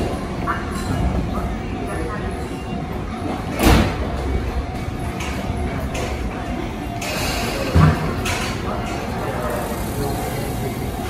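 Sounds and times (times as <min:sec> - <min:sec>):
railway platform noise: 0:00.0 - 0:11.0.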